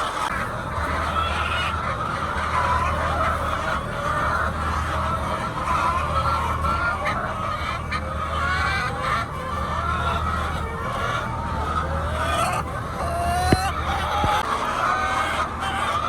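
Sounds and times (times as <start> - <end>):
hens squawking and clucking: 0.0 - 16.0
steady low hum: 0.3 - 15.7.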